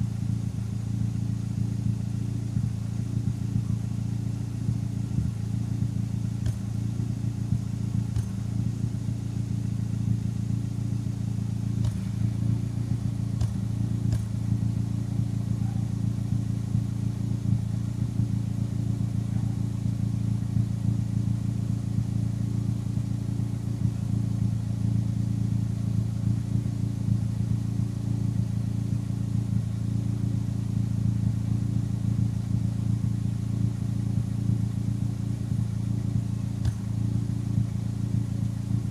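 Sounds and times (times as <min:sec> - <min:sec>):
car engine idling: 0:00.0 - 0:38.9
sharp exhaust pops: 0:02.2 - 0:25.6, 0:30.6 - 0:38.9.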